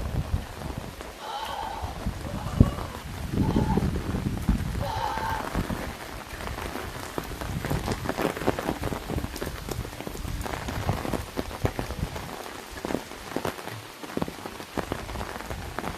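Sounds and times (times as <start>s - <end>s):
raindrops pattering on umbrella: 0.0s - 15.9s
steady hiss of rain: 0.0s - 15.9s.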